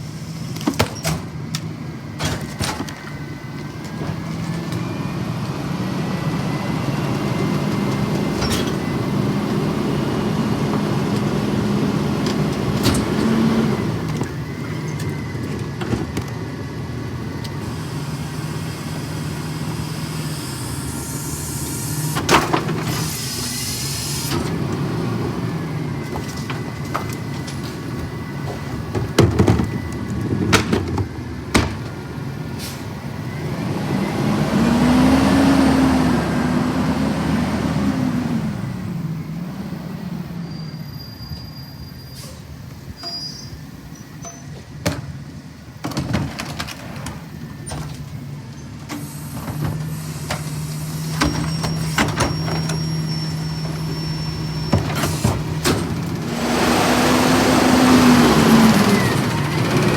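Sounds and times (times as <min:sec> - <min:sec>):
garbage truck engine revving: 0:00.3 - 0:40.9, 0:43.5 - 0:59.9.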